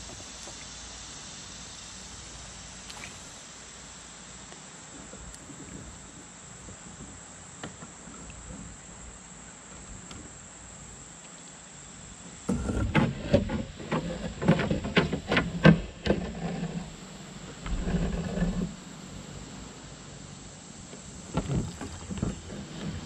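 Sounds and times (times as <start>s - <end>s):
low whir of reel: 0.0s - 11.2s, 12.0s - 23.0s
faint outdoor hiss: 0.0s - 23.0s.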